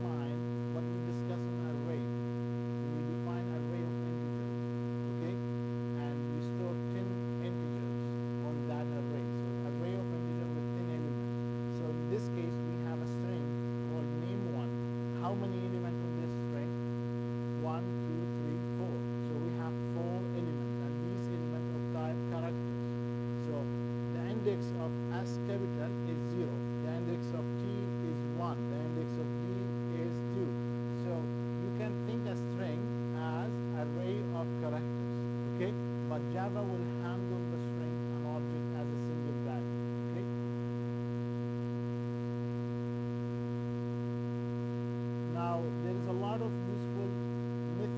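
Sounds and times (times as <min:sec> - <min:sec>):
steady electrical hum: 0:00.0 - 0:47.9.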